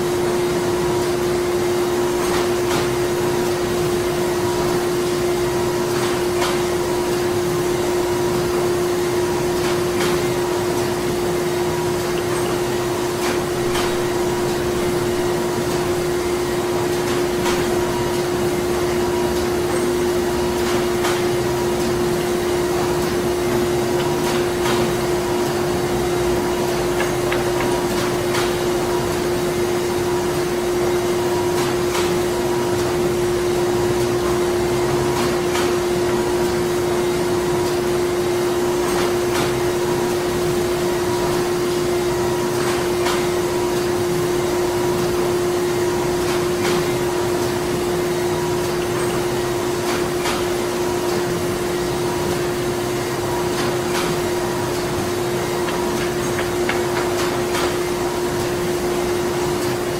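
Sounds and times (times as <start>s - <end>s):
machinery hum and whir: 0.0s - 59.9s.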